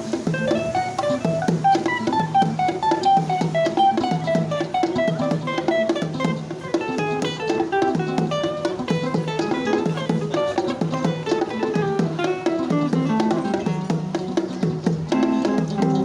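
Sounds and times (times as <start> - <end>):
drums keeping a beat: 0.0 - 16.0
plucked guitar notes: 0.0 - 16.0.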